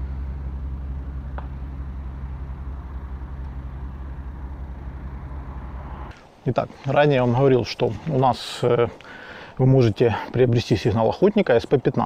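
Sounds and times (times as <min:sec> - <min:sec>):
engine idling: 0:00.0 - 0:11.6.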